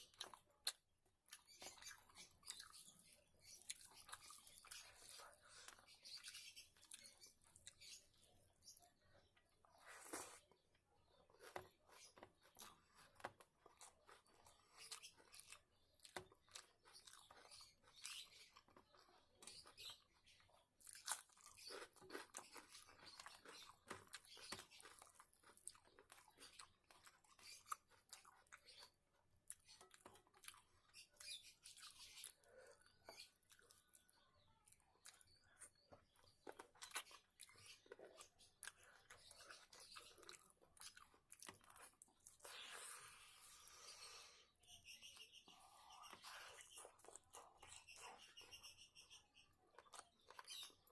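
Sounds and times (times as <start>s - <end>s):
person chewing and crunching food: 0.0s - 50.9s.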